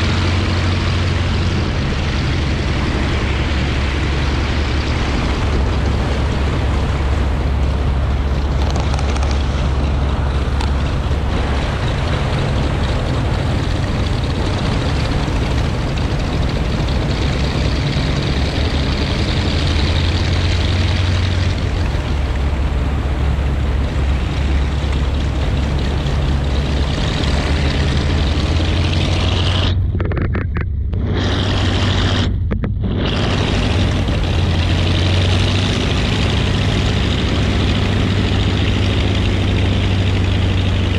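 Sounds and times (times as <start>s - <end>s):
radial aircraft engines droning: 0.0s - 30.0s, 30.9s - 40.9s.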